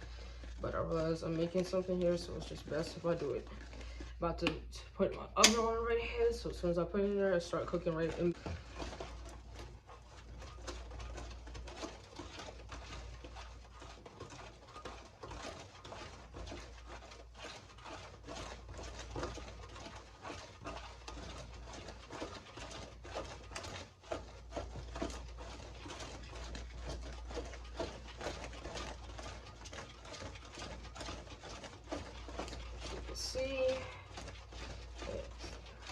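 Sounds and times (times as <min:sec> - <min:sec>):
whisk beating batter in bowl: 0:00.0 - 0:35.9.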